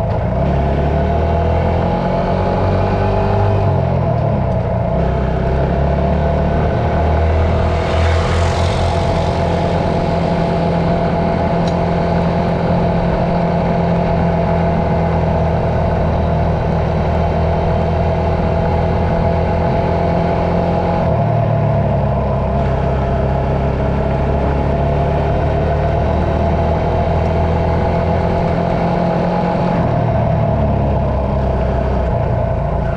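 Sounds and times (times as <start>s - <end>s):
vehicle engine running steadily: 0.0s - 32.9s.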